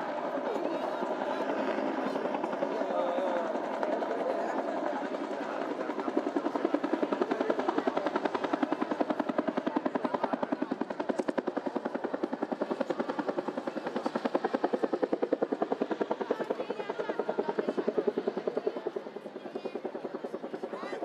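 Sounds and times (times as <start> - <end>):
helicopter rotor beating: 0.0 - 21.0.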